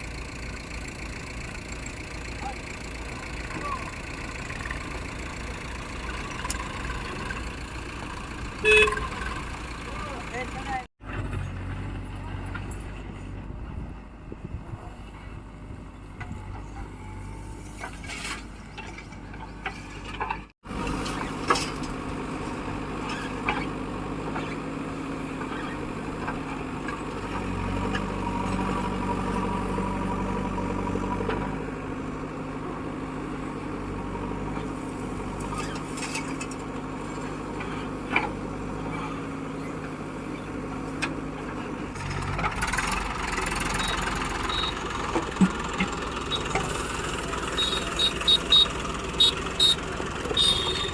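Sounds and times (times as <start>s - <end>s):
diesel engine working: 0.0s - 50.9s.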